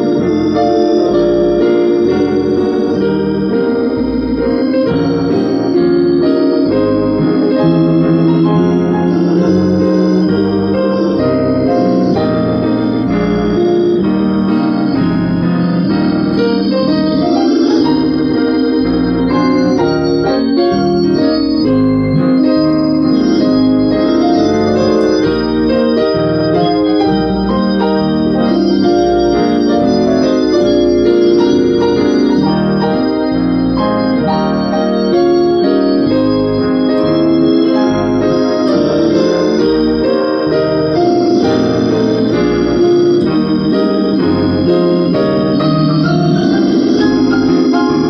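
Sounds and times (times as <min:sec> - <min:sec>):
electric organ playing chords: 0:00.0 - 0:48.0.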